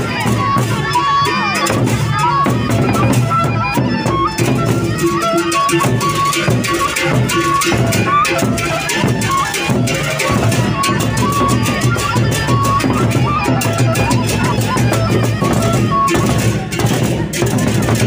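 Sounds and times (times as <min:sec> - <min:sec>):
barrel drums beaten fast: 0:00.0 - 0:18.0
other percussion: 0:00.0 - 0:18.0.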